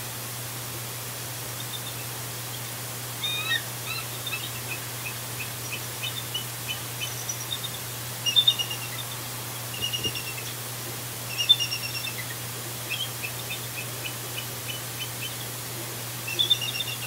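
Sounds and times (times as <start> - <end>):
eagles chittering: 1.5 - 17.0.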